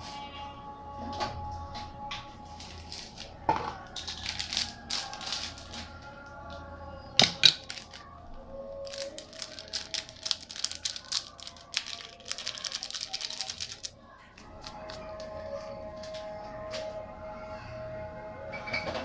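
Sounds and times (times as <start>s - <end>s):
quiet background music: 0.0s - 19.0s
clicking and crunching: 1.0s - 16.9s.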